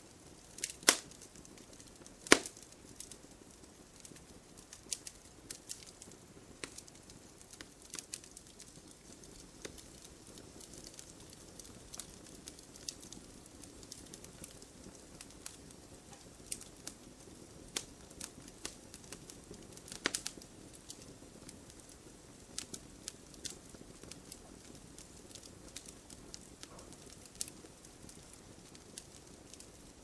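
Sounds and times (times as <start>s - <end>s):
low rumble of burning: 0.0s - 30.0s
wood fire crackling and popping: 0.0s - 30.0s.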